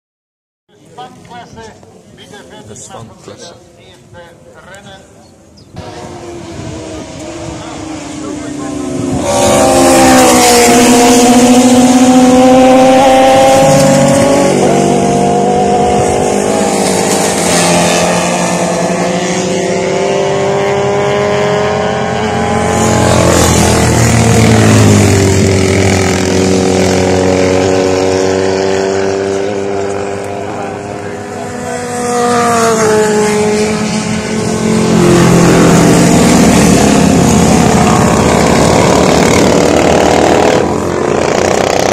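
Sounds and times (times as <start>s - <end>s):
racing motorcycles passing at speed: 5.7s - 41.9s.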